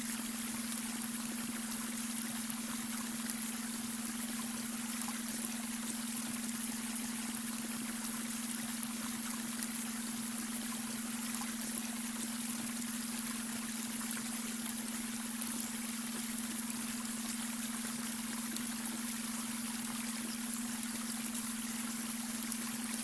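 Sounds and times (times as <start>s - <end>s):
water trickling and bubbling: 0.0s - 23.0s.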